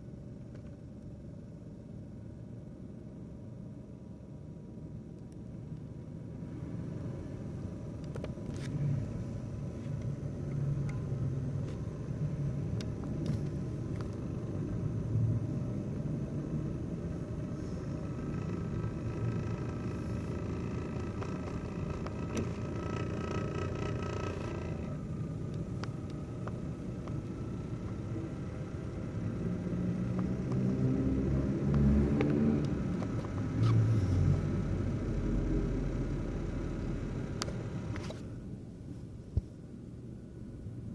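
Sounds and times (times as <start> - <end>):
thin whine: 0.0 - 39.5
laptop fan rumbling: 0.0 - 40.9.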